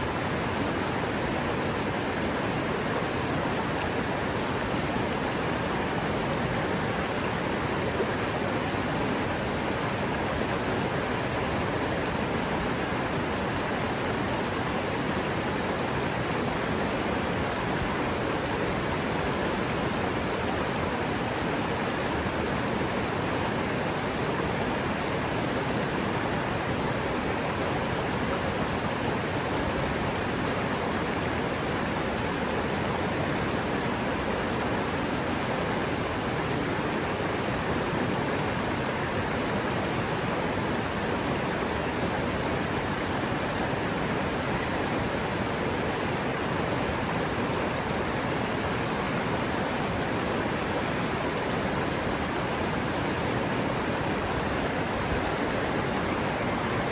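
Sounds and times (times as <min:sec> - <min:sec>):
river water rushing: 0:00.0 - 0:56.9.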